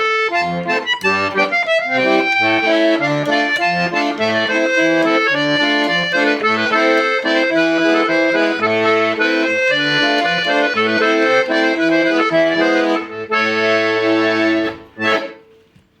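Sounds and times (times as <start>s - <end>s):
accordion melody with bass chords: 0.0s - 15.8s.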